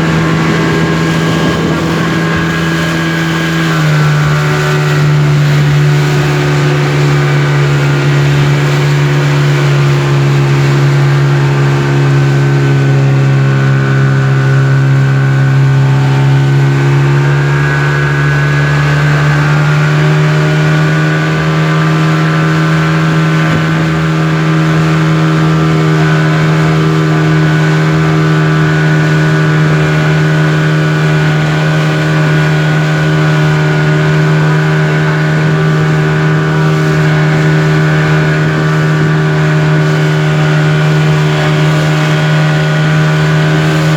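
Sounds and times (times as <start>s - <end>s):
speedboat engine running: 0.0s - 43.9s.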